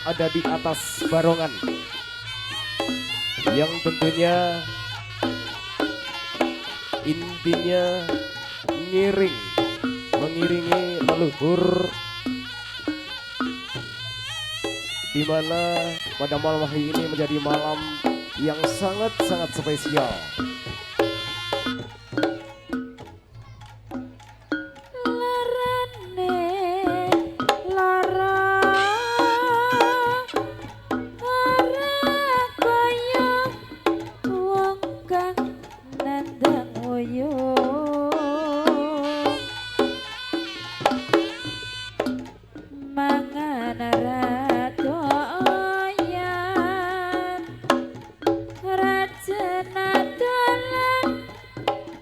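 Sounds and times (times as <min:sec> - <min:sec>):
person singing long notes: 0:00.0 - 0:22.9, 0:25.0 - 0:52.0
hand drum strokes: 0:00.0 - 0:52.0.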